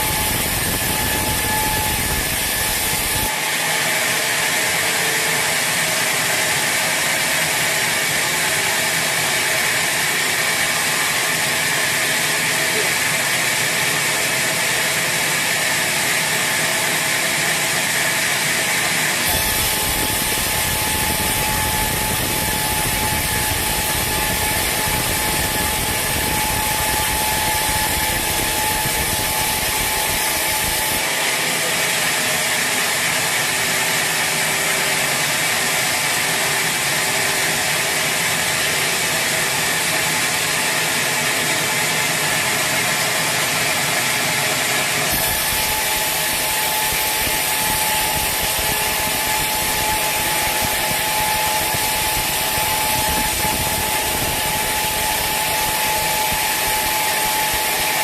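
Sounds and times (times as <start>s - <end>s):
sawmill saw cutting wood: 0.0s - 58.0s.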